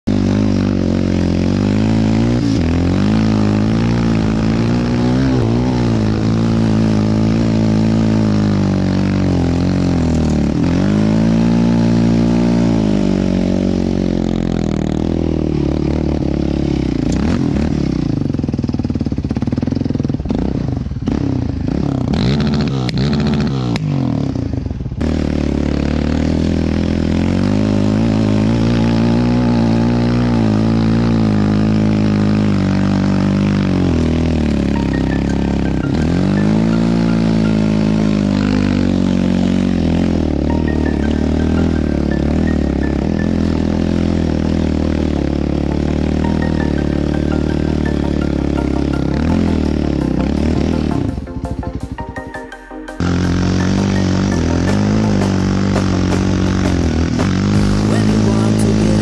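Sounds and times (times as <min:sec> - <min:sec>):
quad engine revving: 0:00.0 - 0:51.9, 0:53.0 - 0:59.0.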